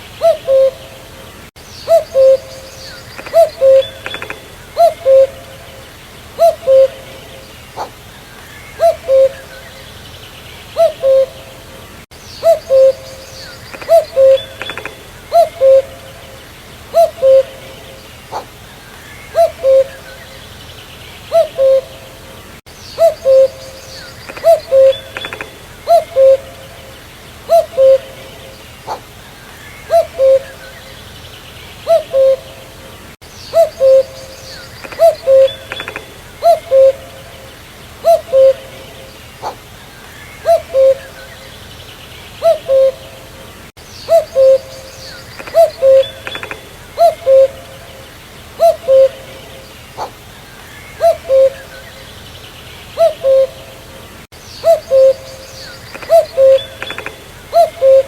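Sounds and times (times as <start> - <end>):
cuckoo calling: 0.0 - 10.0, 10.7 - 20.6, 21.3 - 31.1, 31.8 - 41.6, 42.4 - 52.2, 52.9 - 58.0
faint birds twittering: 0.0 - 58.0.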